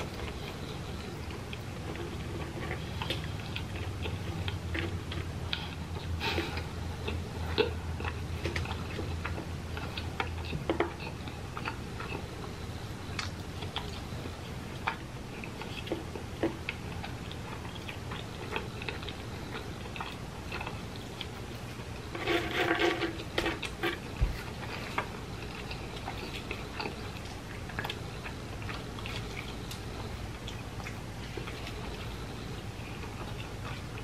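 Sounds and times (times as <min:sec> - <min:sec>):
mouth chewing: 0:00.0 - 0:22.3, 0:23.0 - 0:34.0.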